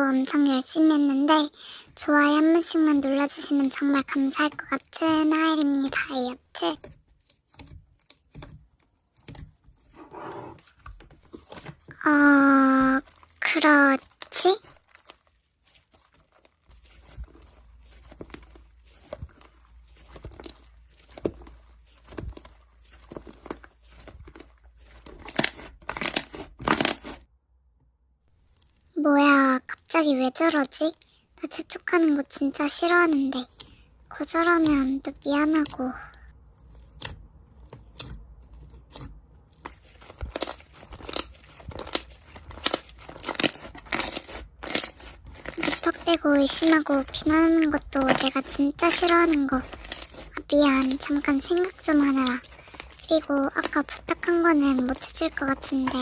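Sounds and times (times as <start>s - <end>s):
hands squishing slime: 1.9s - 27.2s, 29.8s - 56.0s.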